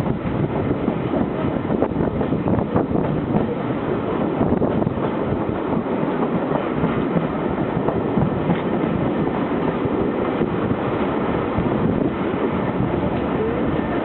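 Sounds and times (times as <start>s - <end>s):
train rolling rumble: 0.0s - 14.0s.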